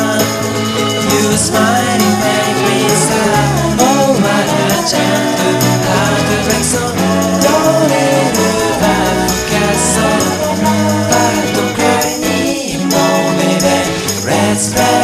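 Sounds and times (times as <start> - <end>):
bass and band accompaniment: 0.0 - 15.0
person singing lead vocal: 0.0 - 15.0.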